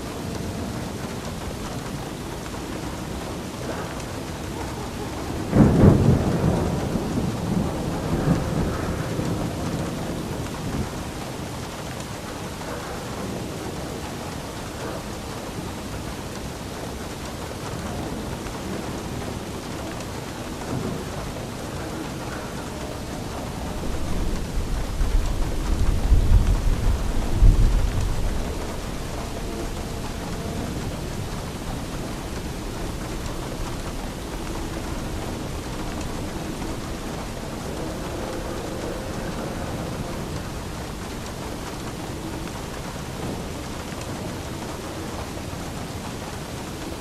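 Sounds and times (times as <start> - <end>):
steady rain: 0.0 - 47.0
thunderclap and rumble: 0.0 - 47.0.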